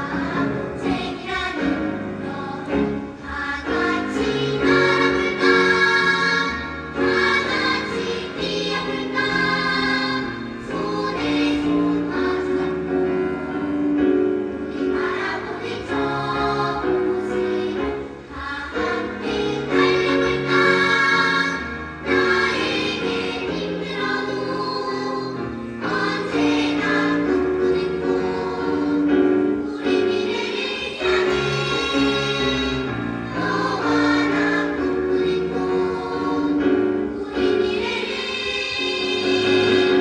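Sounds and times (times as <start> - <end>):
children's choir singing: 0.0 - 40.0
musical accompaniment: 0.0 - 40.0.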